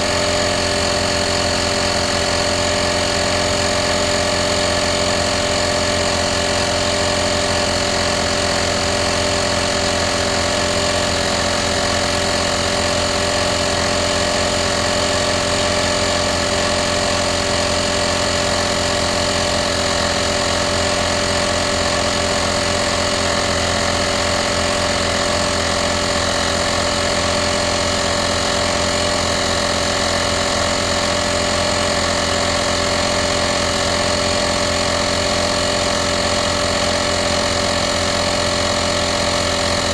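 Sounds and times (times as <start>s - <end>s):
electric air compressor running: 0.0s - 39.9s.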